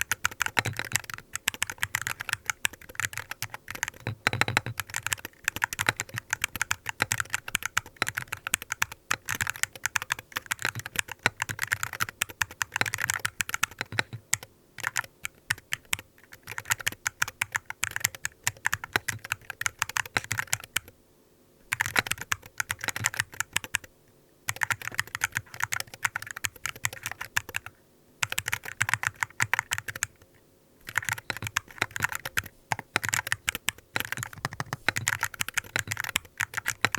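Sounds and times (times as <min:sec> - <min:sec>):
keyboard keystrokes clacking: 0:00.0 - 0:20.9, 0:21.7 - 0:23.9, 0:24.5 - 0:30.2, 0:30.8 - 0:36.9.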